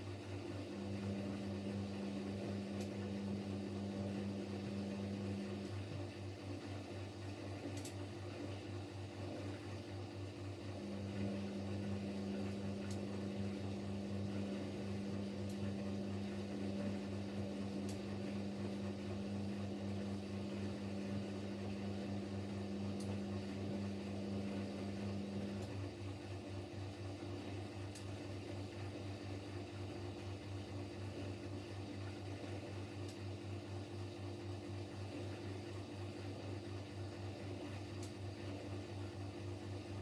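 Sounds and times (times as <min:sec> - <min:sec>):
washing machine low hum: 0:00.0 - 0:40.0.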